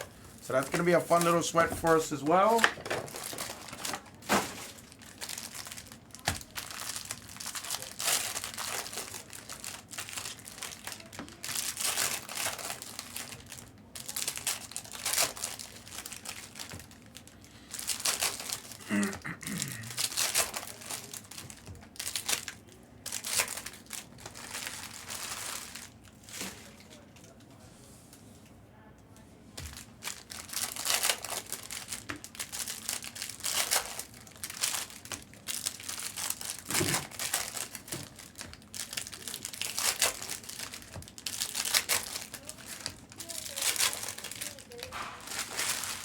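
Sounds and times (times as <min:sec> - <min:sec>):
plastic wrapping crinkling and tearing: 0:00.1 - 0:27.4, 0:29.7 - 0:46.0.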